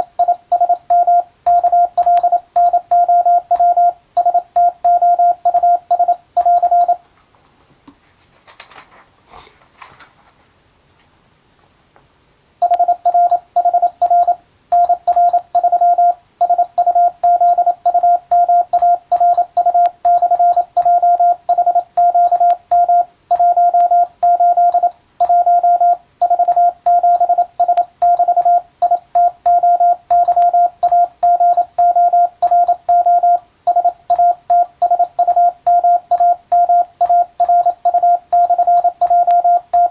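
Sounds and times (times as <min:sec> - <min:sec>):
morse code beeps: 0:00.0 - 0:07.0, 0:12.6 - 0:39.9.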